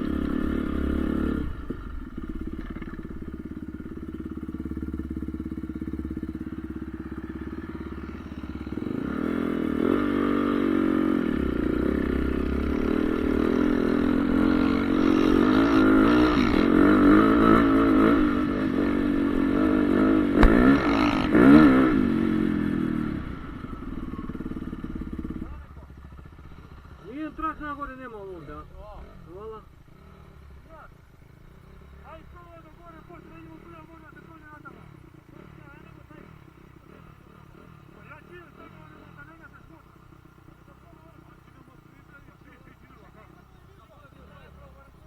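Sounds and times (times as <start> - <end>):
motocross engine revving: 0.0 - 45.0.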